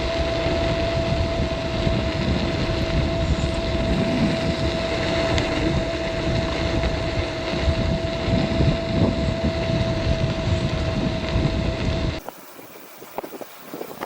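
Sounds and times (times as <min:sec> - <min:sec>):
electric scooter motor whine: 0:00.0 - 0:14.0
wind noise on microphone: 0:00.0 - 0:14.0.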